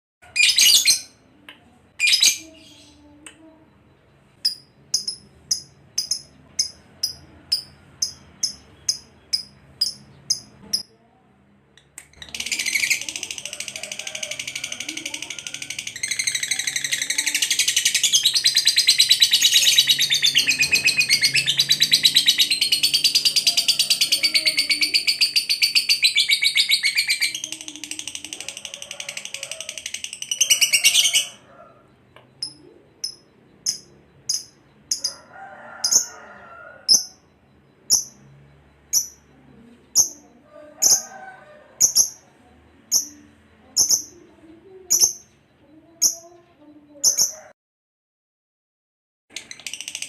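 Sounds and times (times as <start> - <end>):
lovebird chattering and chirping: 0.3 - 1.2, 4.4 - 10.9, 12.0 - 35.2, 35.9 - 36.1, 36.9 - 39.3, 39.9 - 41.1, 41.8 - 47.5, 49.3 - 50.0.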